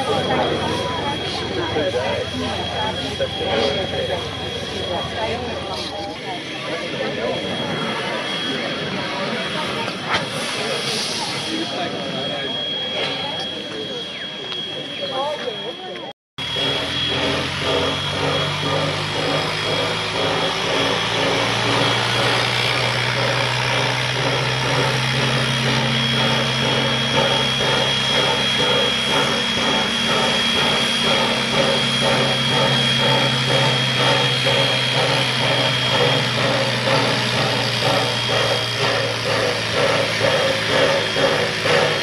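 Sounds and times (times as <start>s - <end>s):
steam locomotive mechanical hum: 0.0s - 42.0s.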